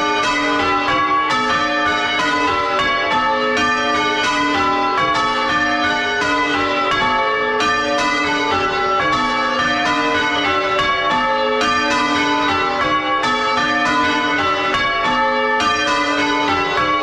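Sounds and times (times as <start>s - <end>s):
church bells change ringing: 0.0s - 17.0s.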